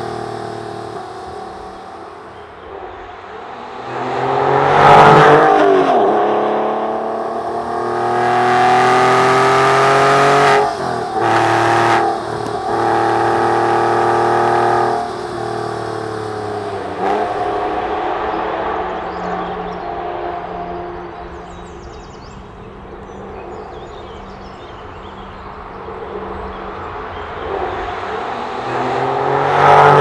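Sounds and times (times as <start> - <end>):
car engine passing and accelerating: 0.0 - 30.0.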